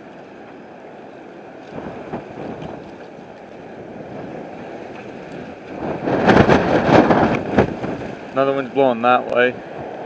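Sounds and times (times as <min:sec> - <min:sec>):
gusting wind buffeting microphone: 0:01.5 - 0:10.0.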